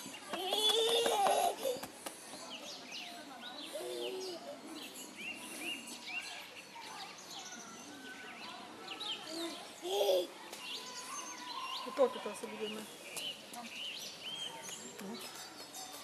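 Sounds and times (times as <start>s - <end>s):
faint background noise: 0.0s - 16.0s
small birds chirping and singing: 0.0s - 16.0s.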